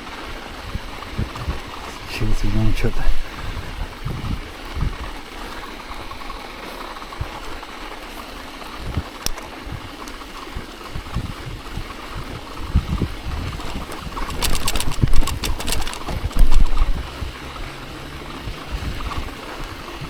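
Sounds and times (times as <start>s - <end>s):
bicycle tyres rolling over snow: 0.0s - 20.0s.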